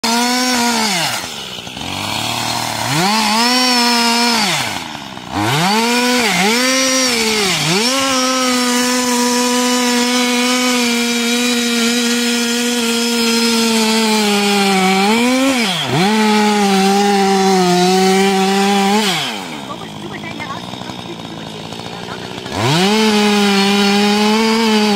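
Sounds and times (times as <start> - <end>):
chainsaw cutting tree: 0.0 - 24.9.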